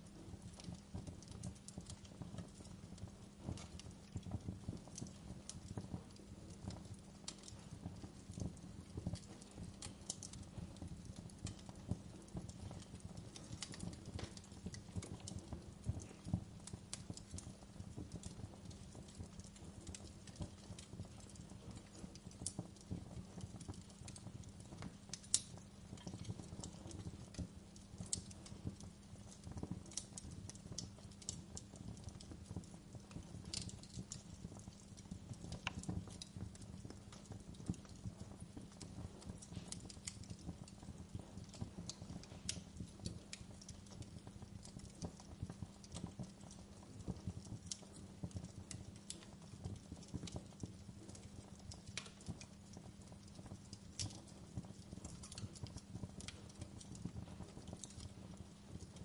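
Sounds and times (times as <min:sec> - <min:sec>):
embers crackling and popping: 0:00.0 - 0:59.0.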